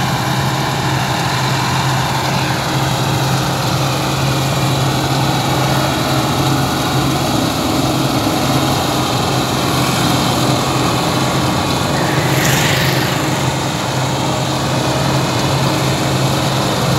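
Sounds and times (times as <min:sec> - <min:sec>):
combine harvester engine drone: 0:00.0 - 0:16.9.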